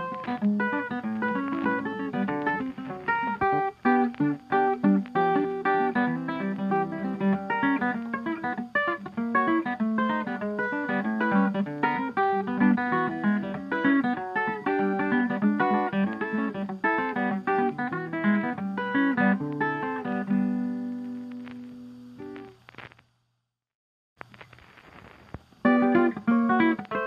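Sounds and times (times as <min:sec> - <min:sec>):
plucked acoustic guitar: 0:00.0 - 0:22.6, 0:25.6 - 0:27.0.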